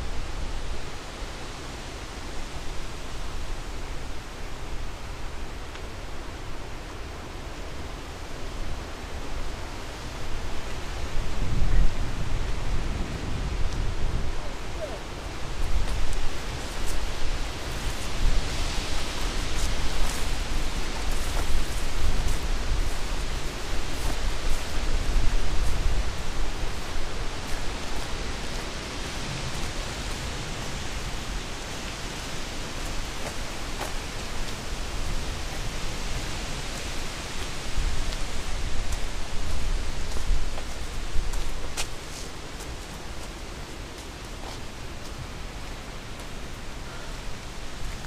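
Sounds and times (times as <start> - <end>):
wind gusting through trees: 0.0 - 48.0
wind buffeting microphone: 9.4 - 48.0.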